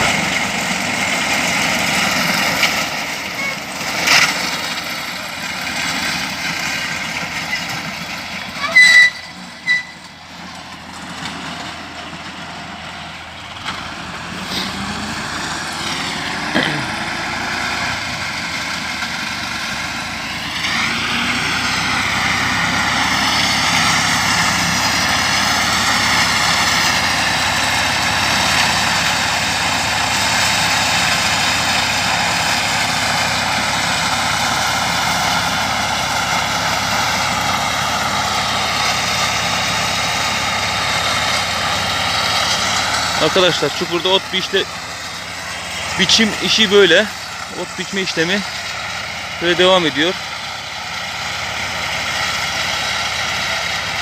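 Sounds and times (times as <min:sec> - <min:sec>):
mowing machine engine: 0:00.0 - 0:54.0.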